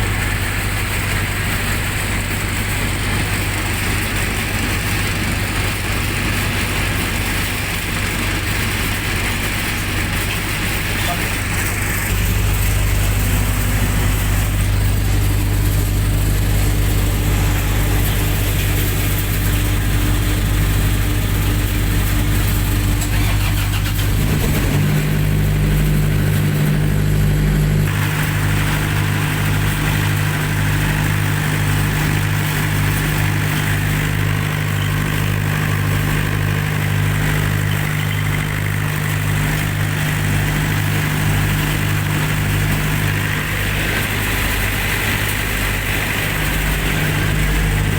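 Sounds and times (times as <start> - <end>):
generator engine running: 0.0 - 47.9.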